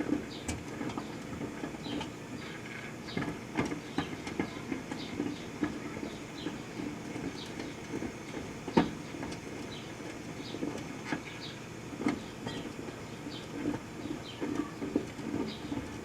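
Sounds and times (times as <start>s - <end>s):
microwave oven humming and rattling: 0.0s - 16.0s.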